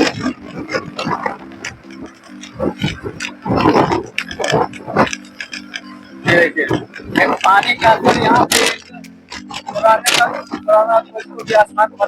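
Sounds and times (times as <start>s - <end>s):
motorcycle engine hum: 0.0s - 12.0s
wind gusting over microphone: 0.0s - 12.0s.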